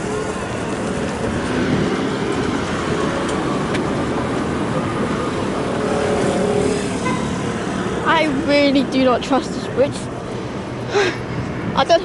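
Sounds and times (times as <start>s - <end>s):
passing traffic rumble: 0.0s - 12.0s.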